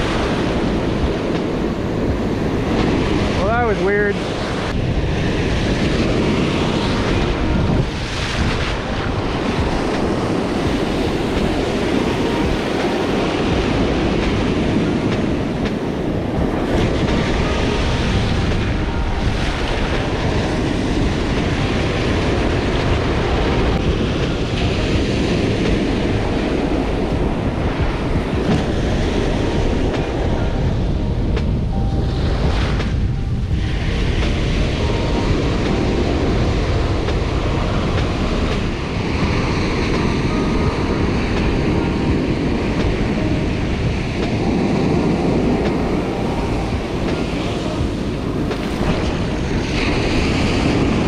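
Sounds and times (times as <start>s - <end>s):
surf breaking on beach: 0.0s - 51.0s
wind buffeting microphone: 0.0s - 51.0s.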